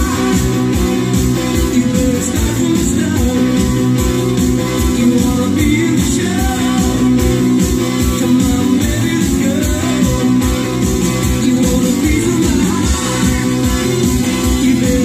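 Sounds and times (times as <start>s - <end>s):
guitar music over loudspeakers: 0.0s - 15.0s.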